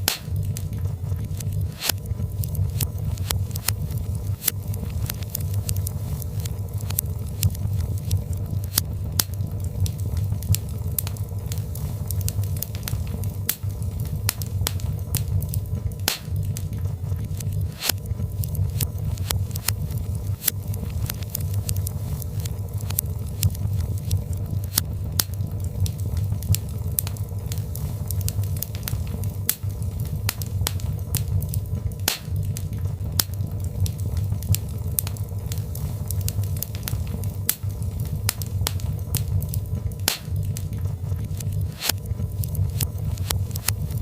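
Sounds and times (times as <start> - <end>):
fire crackling and popping: 0.0 - 44.0
low rumble of flames: 0.0 - 44.0.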